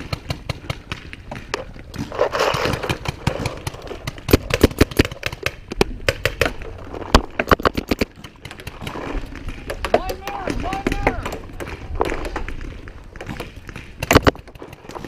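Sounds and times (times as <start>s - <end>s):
paintball markers firing: 0.0s - 6.6s, 7.2s - 15.0s.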